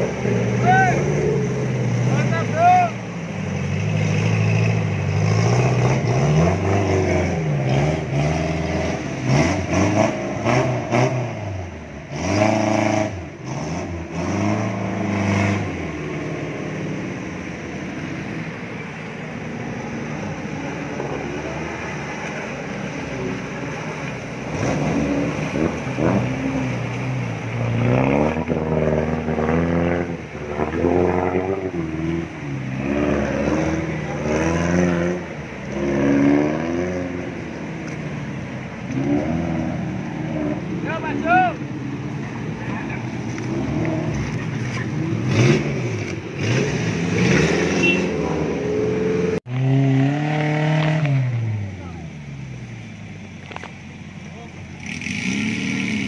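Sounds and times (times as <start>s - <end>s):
off-road engines revving: 0.0s - 56.0s.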